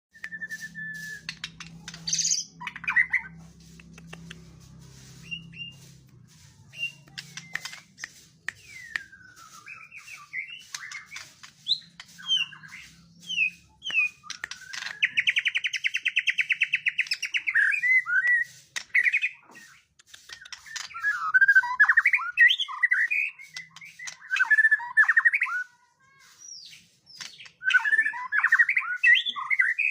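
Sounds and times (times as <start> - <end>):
bird singing whistled song: 0.1 - 3.4, 5.1 - 5.9, 6.7 - 25.7, 26.4 - 29.9.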